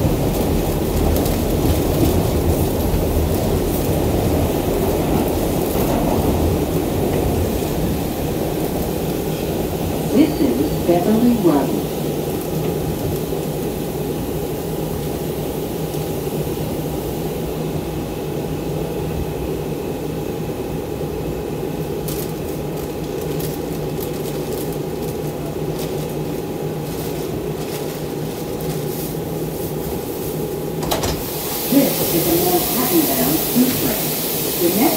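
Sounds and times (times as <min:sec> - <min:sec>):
subway train running hum: 0:00.0 - 0:34.9.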